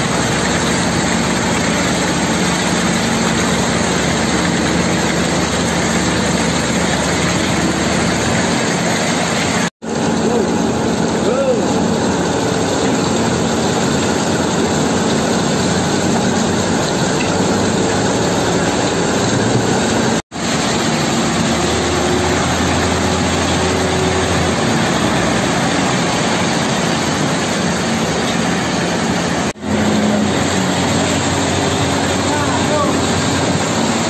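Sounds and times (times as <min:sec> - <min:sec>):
diesel engine running: 0:00.0 - 0:34.0
mixer drum turning: 0:00.0 - 0:34.0
wet concrete sliding down chute: 0:00.0 - 0:34.0.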